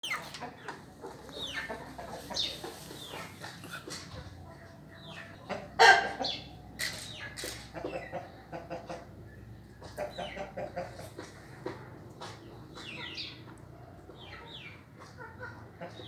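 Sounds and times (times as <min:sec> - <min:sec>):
chickens clucking and calling: 0:00.0 - 0:16.0.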